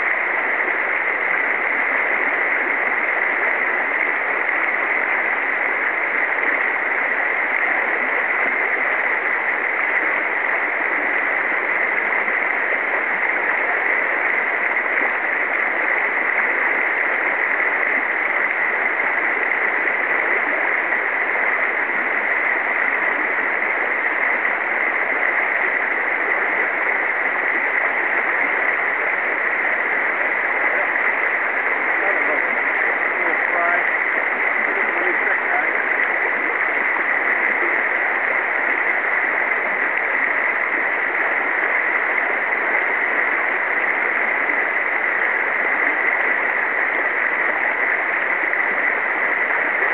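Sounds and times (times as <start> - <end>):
river current rushing: 0.0 - 49.9.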